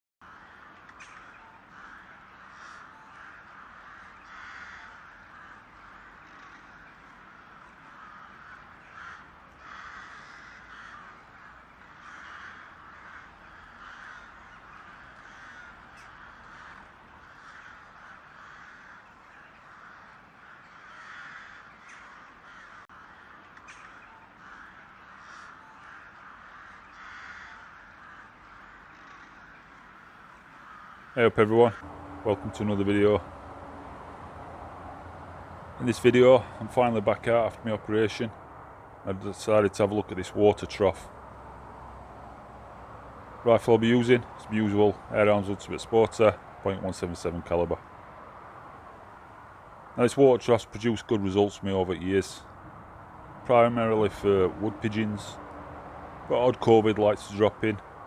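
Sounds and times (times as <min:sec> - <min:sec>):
crows cawing: 0:00.2 - 0:58.0.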